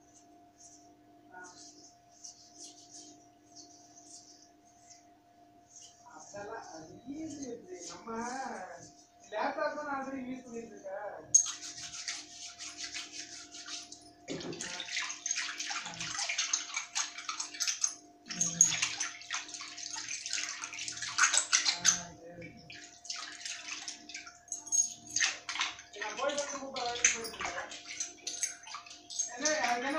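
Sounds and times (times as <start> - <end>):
hands scrubbing in water: 1.5 - 5.0, 5.6 - 10.6, 11.4 - 29.9.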